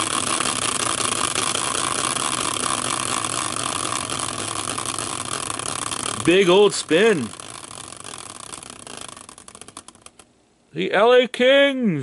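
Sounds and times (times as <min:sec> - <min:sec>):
caster wheel whirring: 0:00.0 - 0:10.4.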